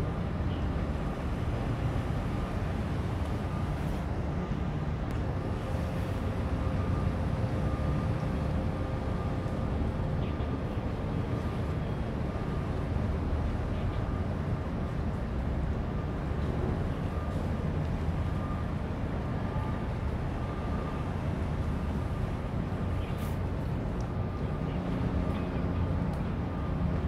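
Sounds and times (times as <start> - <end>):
low rumble of outdoor ambience: 0.0 - 27.0.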